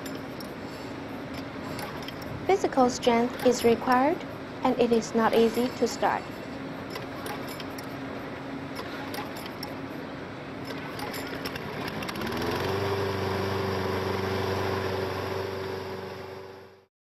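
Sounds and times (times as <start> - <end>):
lawn mower engine running: 0.0 - 4.0, 6.7 - 16.8.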